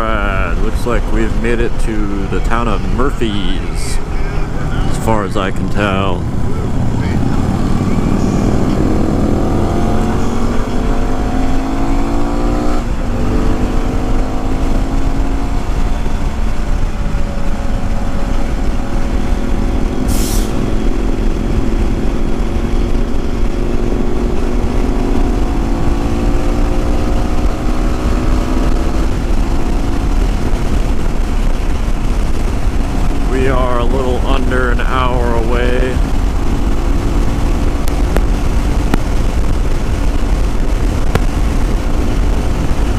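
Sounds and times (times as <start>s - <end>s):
motorcycle engine accelerating: 0.0s - 42.9s
wind rumbling over microphone: 0.0s - 42.9s.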